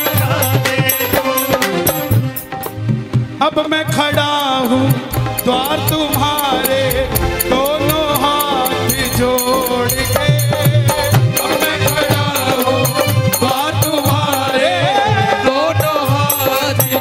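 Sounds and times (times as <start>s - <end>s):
ornamented melody line: 0.0s - 17.0s
steady drum beat: 0.0s - 17.0s.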